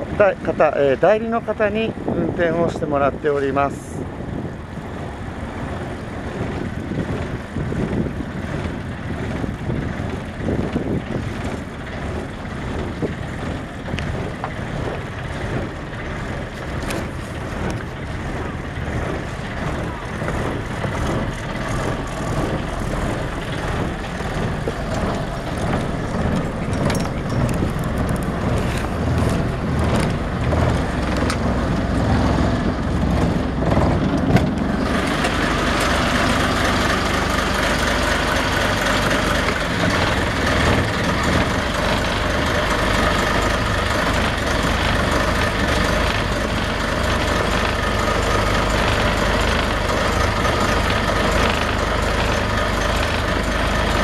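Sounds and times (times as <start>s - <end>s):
boat diesel engine running: 0.0s - 54.0s.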